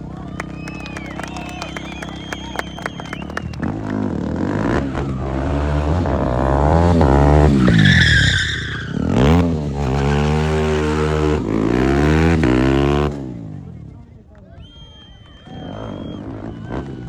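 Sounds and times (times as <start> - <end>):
motorcycle engine revving: 0.0 - 14.2, 15.5 - 17.0
high tyre squeal: 0.4 - 11.9, 14.6 - 17.0.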